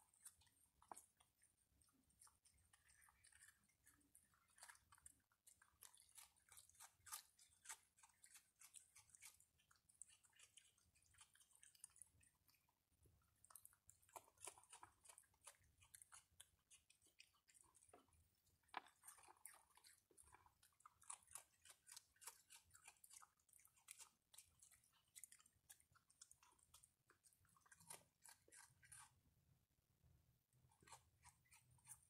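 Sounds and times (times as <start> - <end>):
animals chewing and crunching food: 0.0 - 29.4, 30.6 - 32.0.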